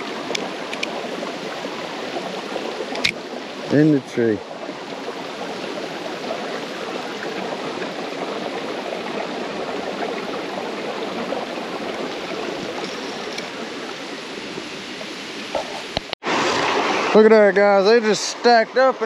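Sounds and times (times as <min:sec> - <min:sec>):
water running through ditch: 0:00.0 - 0:19.0.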